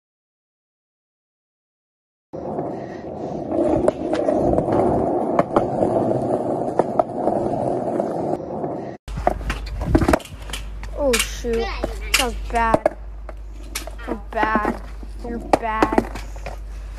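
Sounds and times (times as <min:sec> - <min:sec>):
low hum: 0:02.4 - 0:16.9
skateboard wheels rolling on concrete: 0:02.4 - 0:16.9.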